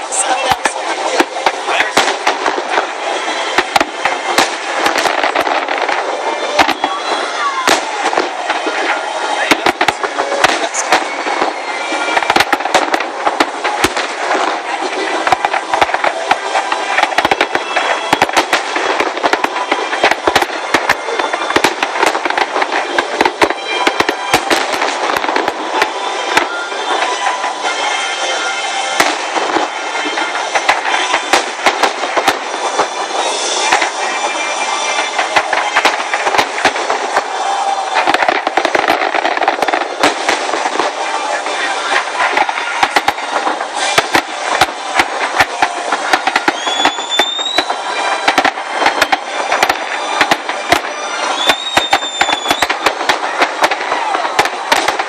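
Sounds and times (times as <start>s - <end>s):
continuous crackling hiss: 0.0s - 55.0s
fireworks bursting: 0.0s - 55.0s
steady rush of noise: 0.0s - 55.0s.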